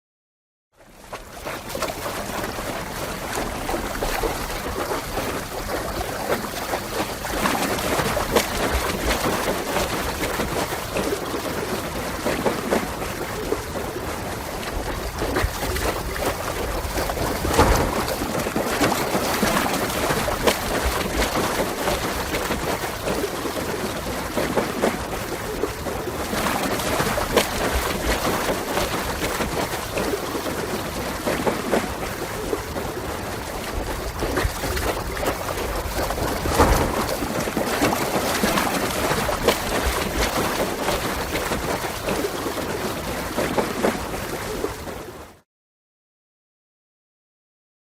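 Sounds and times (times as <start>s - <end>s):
person swimming with splashing: 0.8s - 45.4s.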